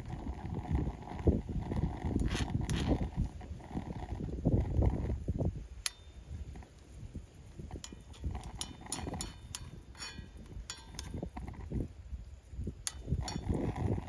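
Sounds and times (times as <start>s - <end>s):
campfire crackling and popping: 0.0s - 14.0s
low fire rumble: 0.0s - 14.0s.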